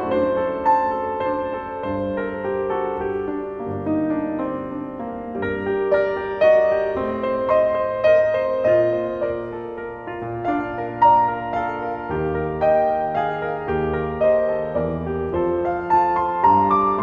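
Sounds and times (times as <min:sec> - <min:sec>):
soft piano melody: 0:00.0 - 0:17.0.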